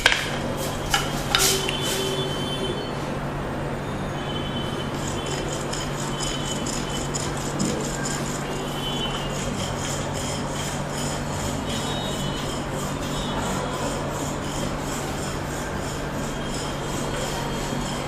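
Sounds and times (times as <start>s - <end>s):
rhythmic rubbing massage strokes: 0.0s - 2.8s, 4.2s - 18.0s
steady low hum: 0.0s - 18.0s.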